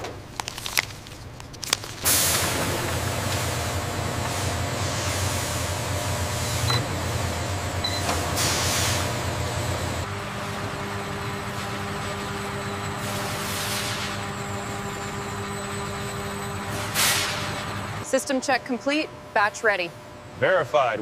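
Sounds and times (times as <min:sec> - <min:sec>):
factory machinery hum: 0:00.0 - 0:21.0
steady electric hum: 0:00.2 - 0:21.0.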